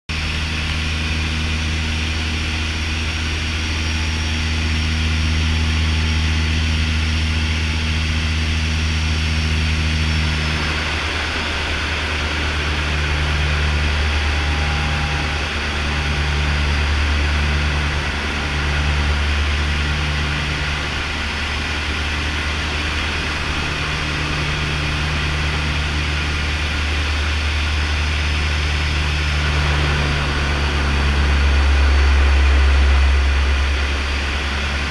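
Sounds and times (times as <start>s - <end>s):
low propeller drone: 0.1s - 34.9s
pulsing hum: 0.1s - 34.9s.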